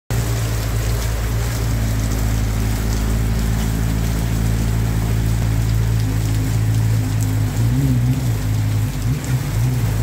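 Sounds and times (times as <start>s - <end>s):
heavy rain pouring: 0.1s - 10.0s.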